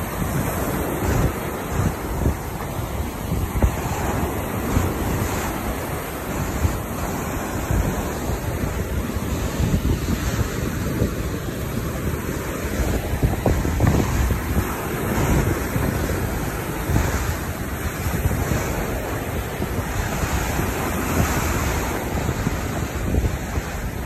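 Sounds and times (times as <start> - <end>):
waves washing up beach: 0.0 - 24.0
wind buffeting microphone: 0.0 - 24.0.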